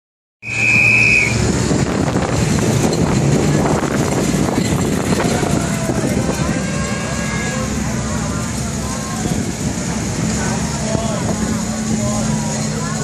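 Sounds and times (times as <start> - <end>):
military vehicle engines passing: 0.4 - 13.0.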